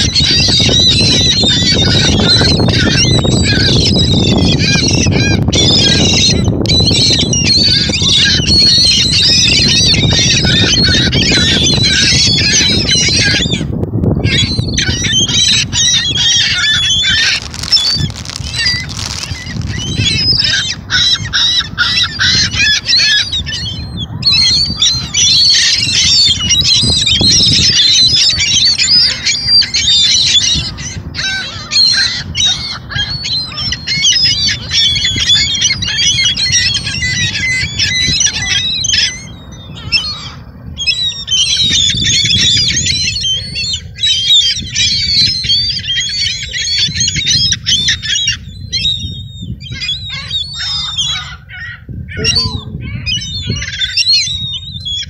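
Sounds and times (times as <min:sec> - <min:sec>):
gulls calling: 0:00.0 - 0:55.0.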